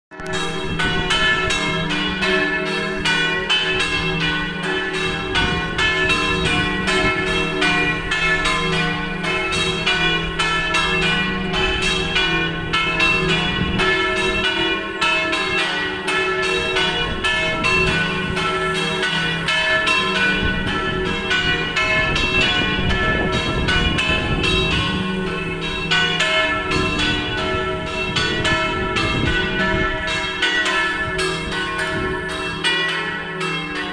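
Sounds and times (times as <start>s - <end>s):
church bells pealing: 0.1s - 33.9s.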